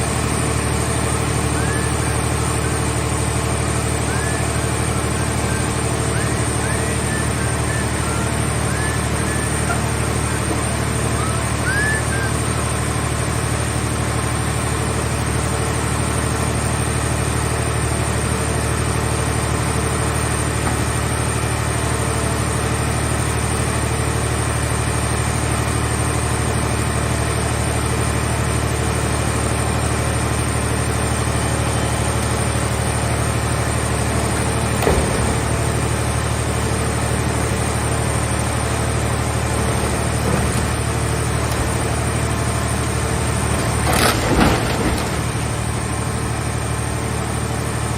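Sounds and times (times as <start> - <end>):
car baler machine hum: 0.0 - 47.9.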